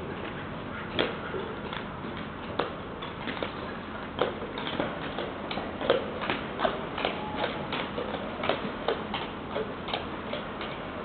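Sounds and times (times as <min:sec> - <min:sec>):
horse hooves clopping on hard floor: 0:01.0 - 0:11.0.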